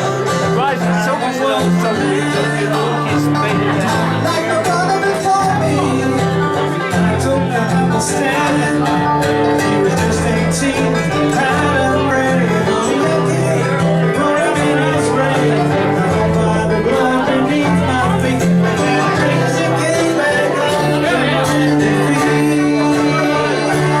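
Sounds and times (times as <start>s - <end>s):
guitar and bass music with beat: 0.0s - 24.0s.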